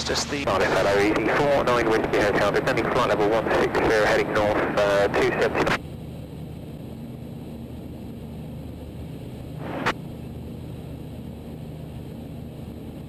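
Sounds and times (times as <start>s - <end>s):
aircraft engine droning: 0.0s - 13.0s.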